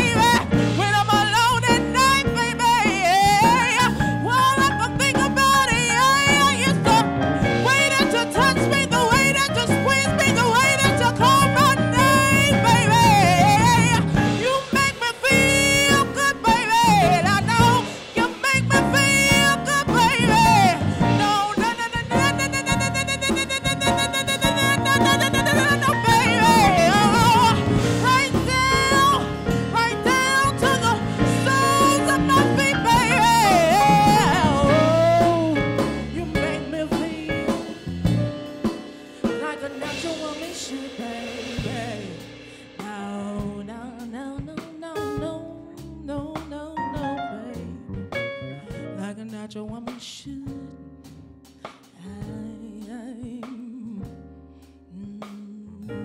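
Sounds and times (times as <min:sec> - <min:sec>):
live band playing: 0:00.0 - 0:53.5
woman singing soul ballad: 0:00.0 - 0:56.0.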